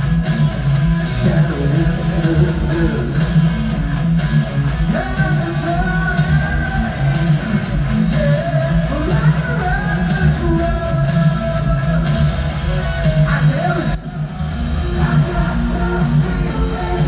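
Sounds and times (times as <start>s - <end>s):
bass: 0.0s - 17.0s
drums: 0.0s - 17.0s
electric guitars: 0.0s - 17.0s.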